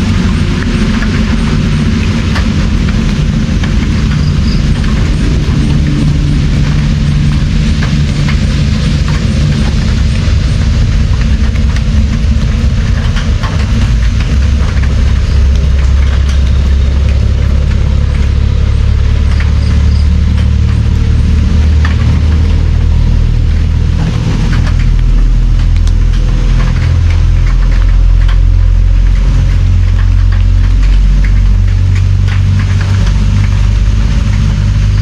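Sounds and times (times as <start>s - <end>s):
deep continuous rumble: 0.0s - 35.0s
heavy rain with ticking drops: 0.0s - 35.0s.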